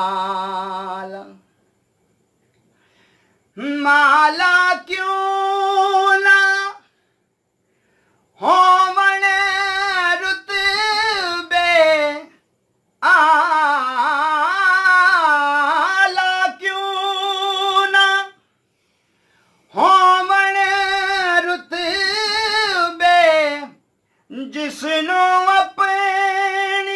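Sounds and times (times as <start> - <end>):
man singing unaccompanied: 0.0 - 1.5, 3.5 - 7.0, 8.4 - 12.4, 13.0 - 18.4, 19.7 - 26.9.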